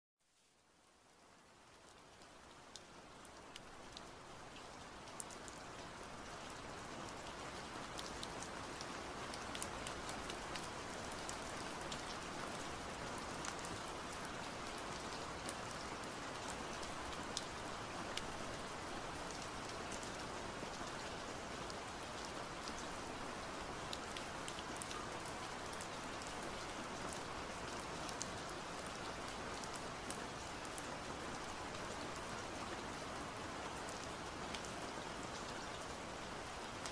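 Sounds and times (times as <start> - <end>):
rain-like hiss: 0.2 - 36.9.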